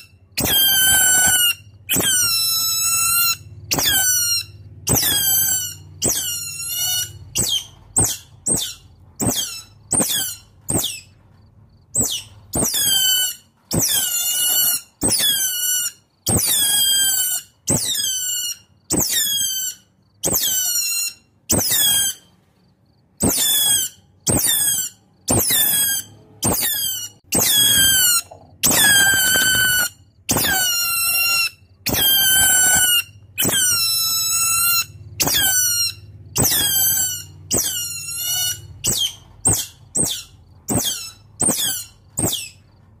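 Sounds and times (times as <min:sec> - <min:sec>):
otter squeaky squeals: 0:00.0 - 0:22.4, 0:23.2 - 0:42.8.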